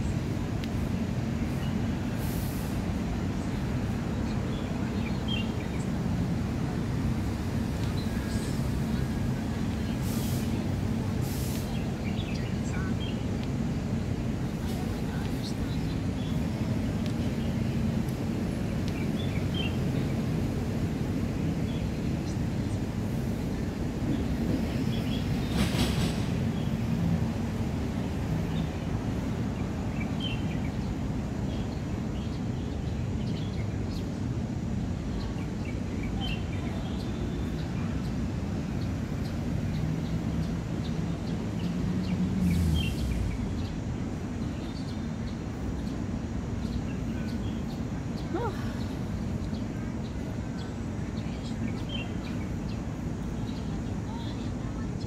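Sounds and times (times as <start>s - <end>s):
distant city traffic rumble: 0.0s - 55.0s.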